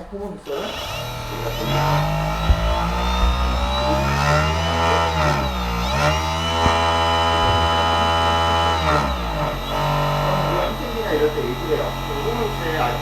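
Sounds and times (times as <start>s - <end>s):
electric mixer motor whining: 0.0s - 13.0s.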